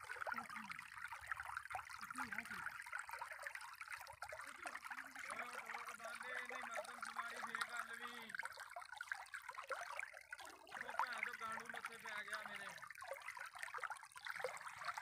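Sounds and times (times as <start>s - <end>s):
water rushing and gurgling: 0.0s - 9.9s, 10.5s - 15.0s.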